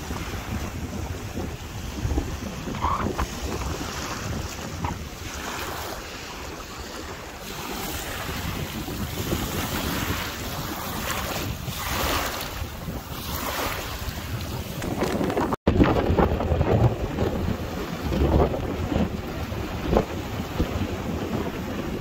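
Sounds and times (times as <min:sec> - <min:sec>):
small waves washing on sand: 0:00.0 - 0:22.0
wind buffeting microphone: 0:00.0 - 0:22.0.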